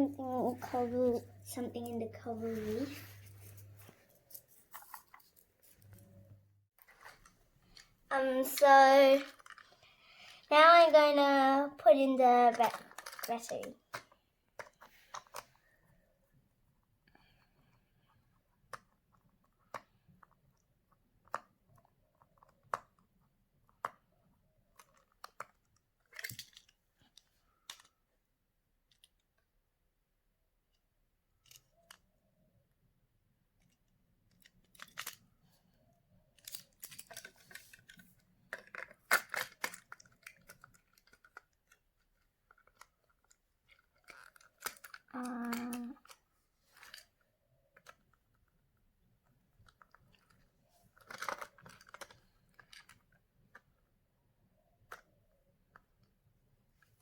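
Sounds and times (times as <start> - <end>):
plastic toy train clicks and rustles: 4.2 - 6.1, 6.8 - 16.0, 17.1 - 29.6, 30.6 - 32.2, 33.5 - 54.0, 54.6 - 56.2.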